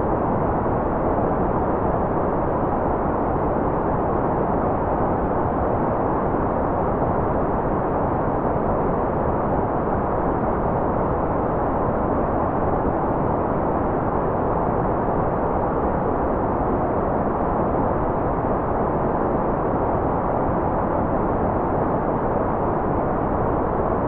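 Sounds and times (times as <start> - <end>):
muffled white noise: 0.0 - 24.0.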